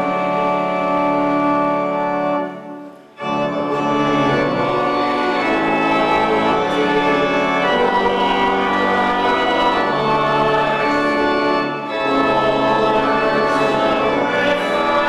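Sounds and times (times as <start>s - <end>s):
church organ playing chords: 0.0s - 15.0s.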